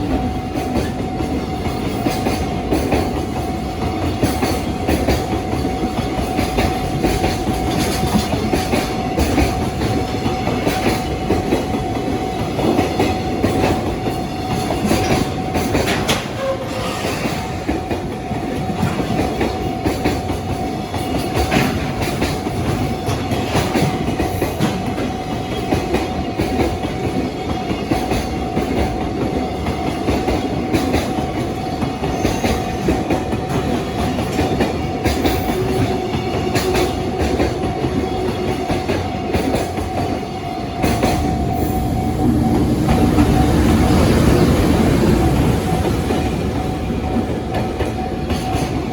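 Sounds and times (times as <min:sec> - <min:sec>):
freight train rolling past: 0:00.0 - 0:48.9
wheels clicking over rail joints: 0:00.6 - 0:48.9.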